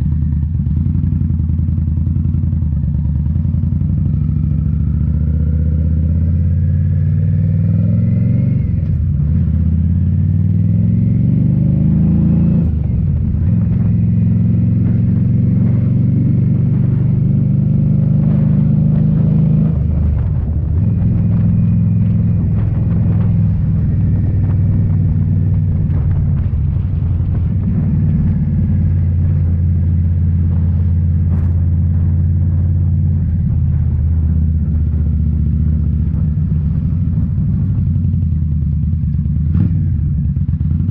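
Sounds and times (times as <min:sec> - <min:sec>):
motorcycle exhaust note: 0:00.0 - 0:40.9.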